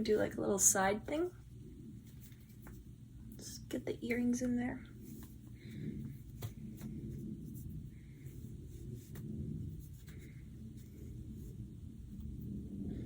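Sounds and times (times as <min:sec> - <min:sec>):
fabric rustling: 0:00.0 - 0:03.6, 0:04.2 - 0:13.0
low rumble: 0:00.0 - 0:13.0.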